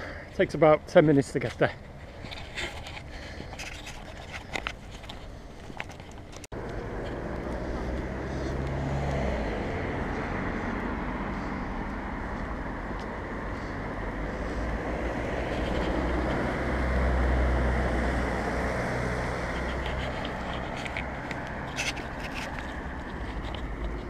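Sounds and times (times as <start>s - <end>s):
rumble of passing cars: 0.0s - 24.0s.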